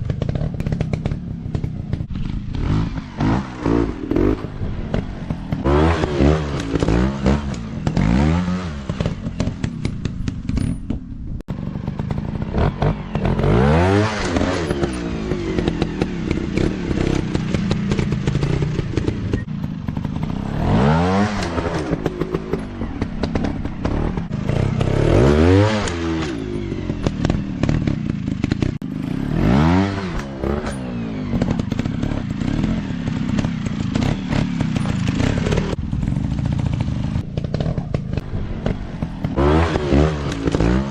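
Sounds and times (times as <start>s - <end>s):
dirt bike engines revving: 0.0s - 10.8s, 11.5s - 40.9s.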